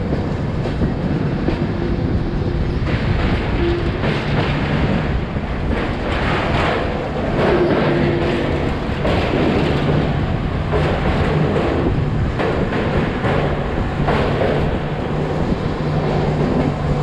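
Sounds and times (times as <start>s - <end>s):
rushing air: 0.0s - 17.0s
train wheels rumbling: 0.0s - 17.0s.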